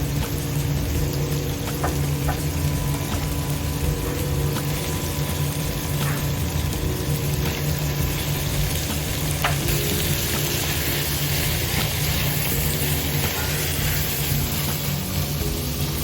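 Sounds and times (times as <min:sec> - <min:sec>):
low hum: 0:00.0 - 0:15.8
food sizzling in a pot: 0:00.0 - 0:16.0.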